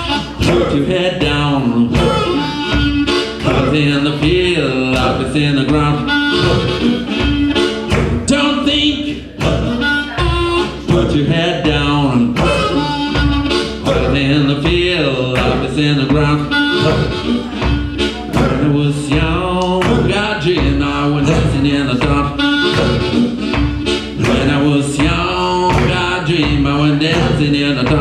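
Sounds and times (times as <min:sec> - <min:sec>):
harmonica wailing: 0:00.0 - 0:19.6, 0:21.0 - 0:27.0
blues band playing: 0:00.0 - 0:28.0.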